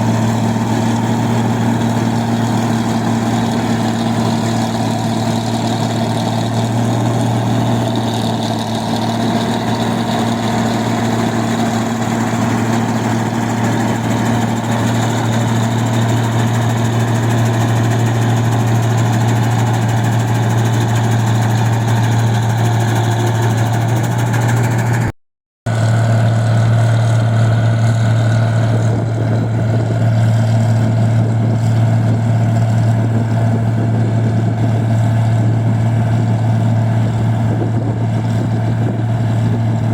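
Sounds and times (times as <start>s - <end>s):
machine engine droning: 0.0s - 25.1s, 25.7s - 39.9s.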